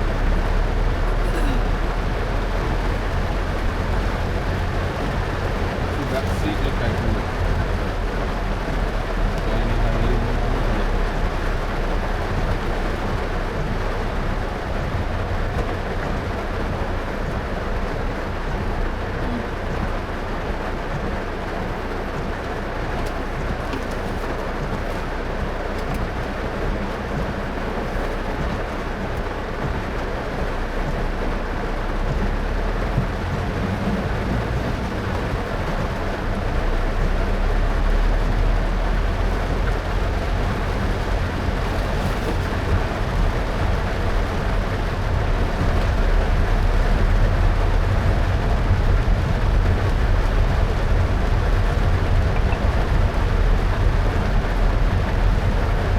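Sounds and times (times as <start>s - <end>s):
rain hissing: 0.0s - 55.9s
tyre noise on wet road: 0.0s - 55.9s.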